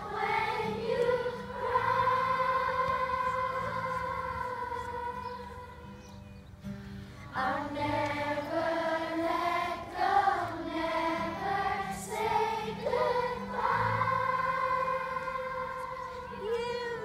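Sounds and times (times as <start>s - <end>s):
children singing in unison: 0.0s - 6.0s, 7.3s - 17.0s
acoustic guitar: 0.0s - 17.0s.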